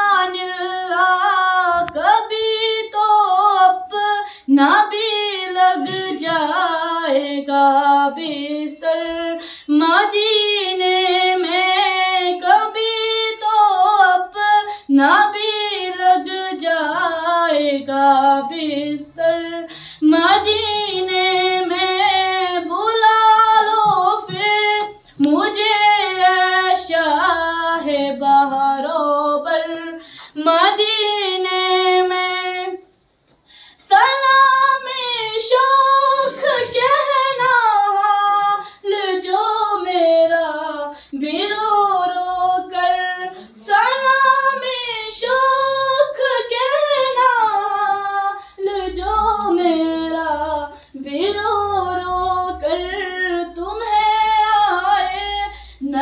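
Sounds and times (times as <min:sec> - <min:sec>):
girl singing unaccompanied: 0:00.0 - 0:32.9, 0:33.8 - 0:56.0.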